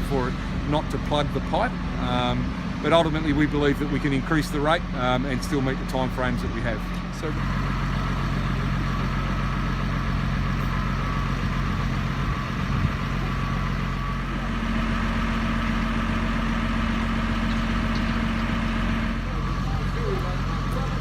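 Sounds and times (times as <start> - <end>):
heavy machinery engine hum: 0.0 - 21.0.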